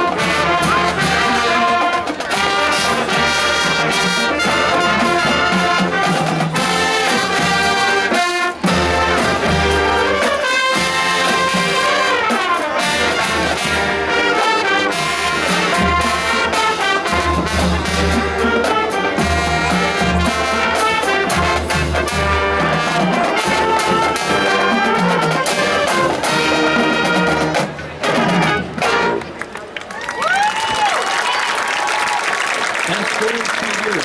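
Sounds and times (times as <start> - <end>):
marching band brass playing: 0.0 - 29.5.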